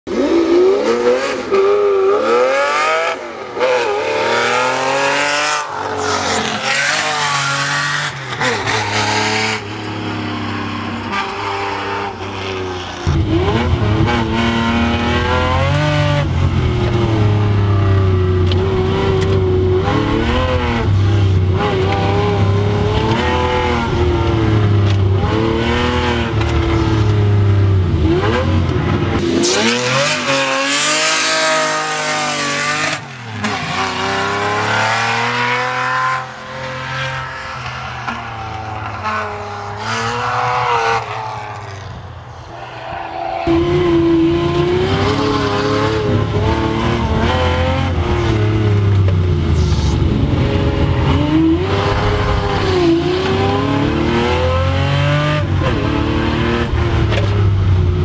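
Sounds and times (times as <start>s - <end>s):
race car engine revving: 0.1s - 57.9s.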